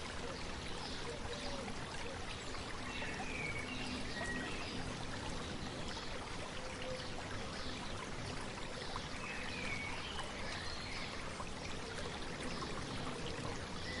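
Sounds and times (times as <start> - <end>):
stream babbling: 0.0 - 14.0.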